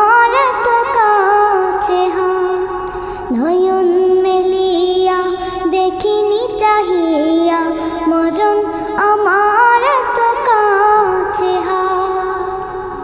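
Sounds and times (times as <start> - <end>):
girl singing devotional song: 0.0 - 13.0.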